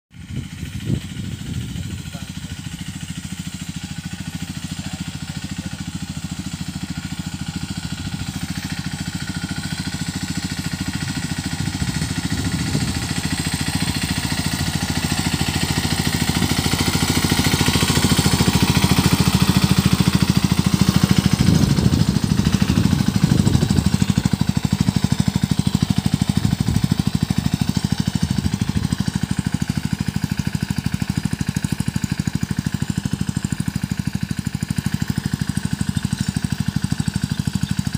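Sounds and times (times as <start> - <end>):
tractor engine under load: 0.2 - 37.9.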